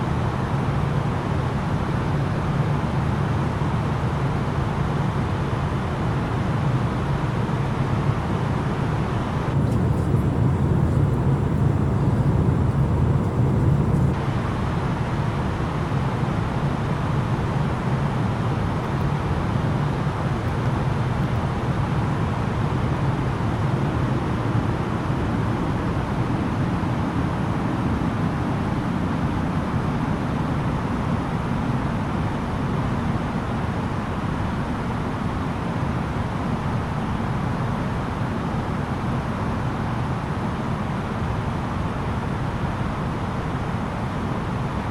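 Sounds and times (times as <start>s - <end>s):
aircraft cabin roar: 0.0s - 44.9s.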